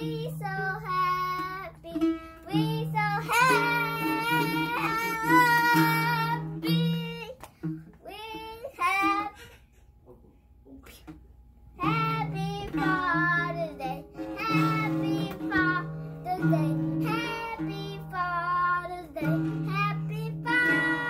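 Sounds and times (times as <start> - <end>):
child singing: 0.0 - 7.4, 8.0 - 9.4, 11.8 - 21.0
acoustic guitar strumming: 0.0 - 9.4, 11.7 - 21.0.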